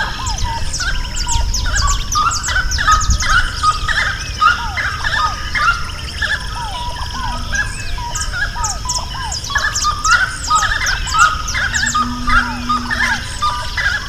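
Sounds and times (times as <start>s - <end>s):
chorus of wild birds singing: 0.0s - 14.0s.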